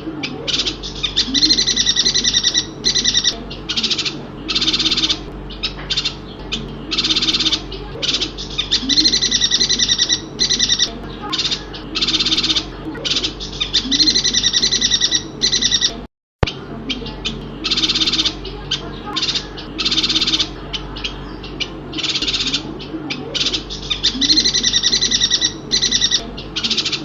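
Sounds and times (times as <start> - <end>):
bird chattering song: 0.0 - 27.0.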